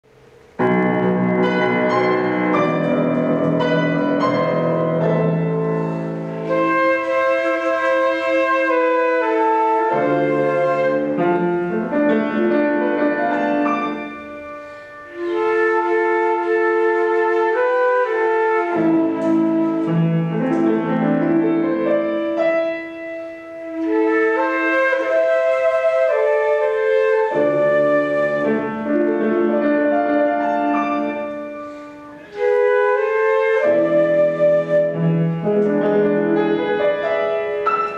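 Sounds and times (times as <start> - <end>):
instrumental duet music: 0.0 - 37.9
piano chords: 0.0 - 37.9.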